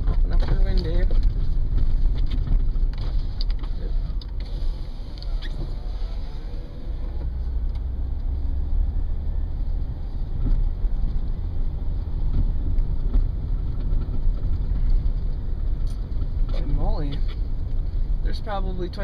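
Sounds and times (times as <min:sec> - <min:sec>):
engine and tyres rumbling: 0:00.0 - 0:19.0.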